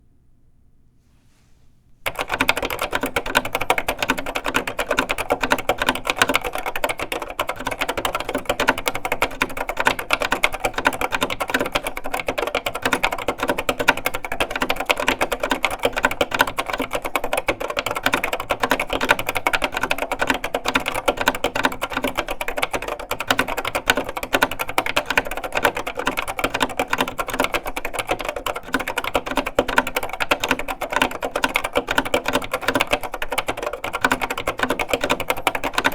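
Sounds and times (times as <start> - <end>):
fast typing on clacky keyboard: 2.1 - 35.9.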